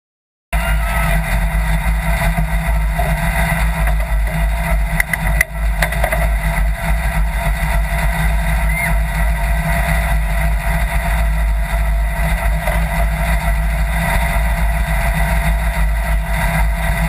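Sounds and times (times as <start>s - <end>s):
engine idling: 0.5s - 17.0s.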